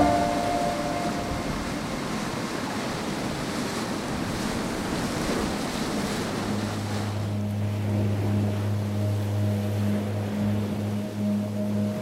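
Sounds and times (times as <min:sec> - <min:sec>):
low steady hum: 0:00.0 - 0:04.7, 0:05.3 - 0:12.0
surf washing against rocks: 0:00.0 - 0:10.5.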